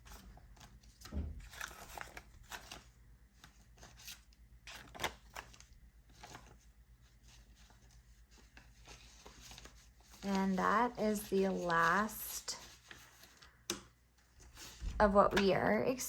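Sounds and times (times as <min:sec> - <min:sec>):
banknotes rustling and flicking: 0:00.0 - 0:15.9.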